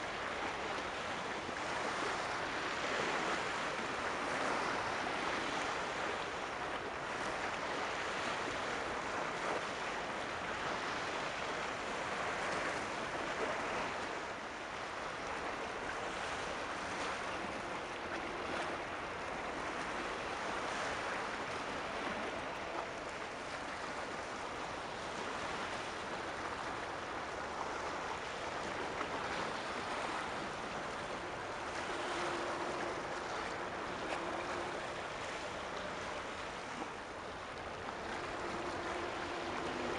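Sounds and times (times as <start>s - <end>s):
waves washing: 0.0s - 39.9s.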